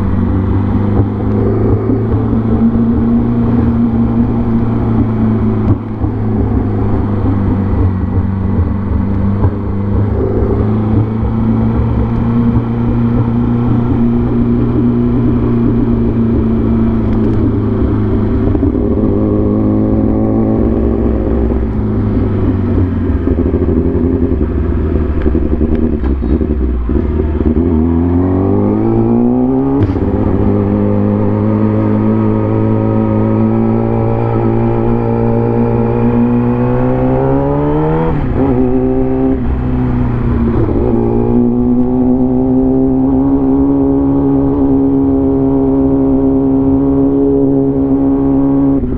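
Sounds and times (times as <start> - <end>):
vehicle engine revving with gear changes: 0.0 - 48.9.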